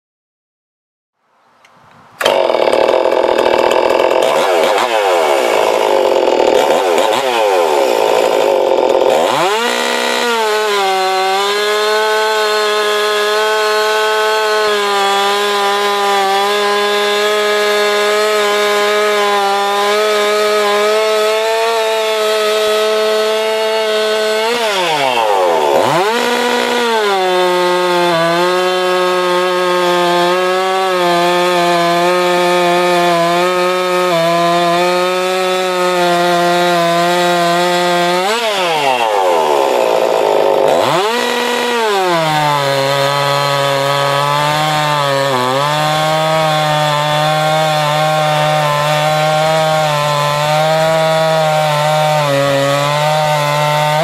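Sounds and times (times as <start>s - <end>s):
chainsaw cutting timber: 2.2s - 54.0s.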